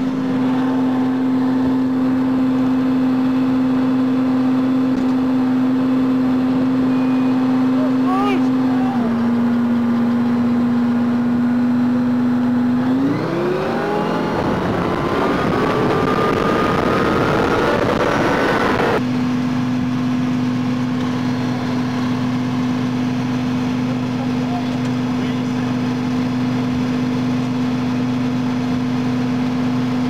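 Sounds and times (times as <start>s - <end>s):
vehicle engine running and revving: 0.0s - 30.0s.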